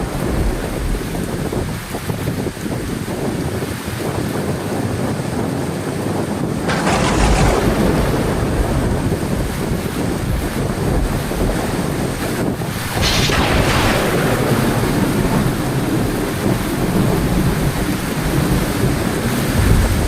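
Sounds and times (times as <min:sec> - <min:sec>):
heavy rain falling: 0:00.0 - 0:20.0
thunder rumbling: 0:00.0 - 0:20.0.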